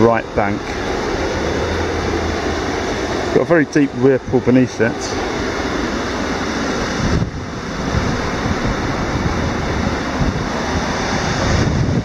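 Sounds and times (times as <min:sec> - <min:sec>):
water rushing over weir: 0:00.0 - 0:12.0
wind buffeting microphone: 0:00.0 - 0:12.0.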